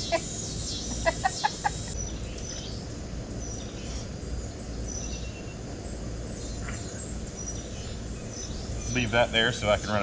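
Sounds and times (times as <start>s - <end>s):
faint bird chirps: 0.0s - 9.7s
low background rumble: 0.0s - 10.0s.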